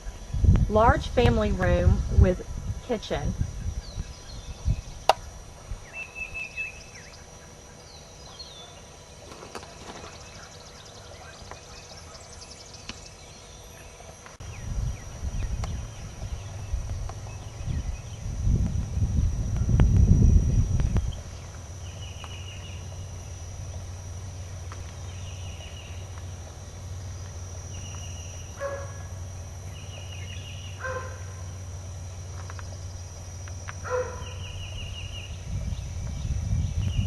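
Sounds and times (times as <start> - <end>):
steady low hum: 0.0 - 37.0
songbird chirping: 1.1 - 18.4, 20.8 - 37.0.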